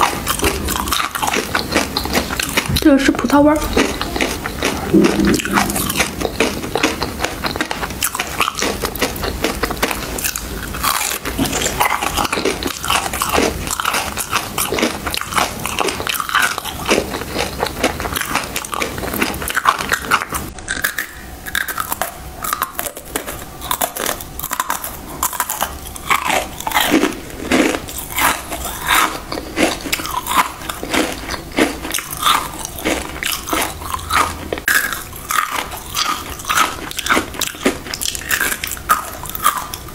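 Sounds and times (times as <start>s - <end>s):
person chewing: 0.0s - 39.9s.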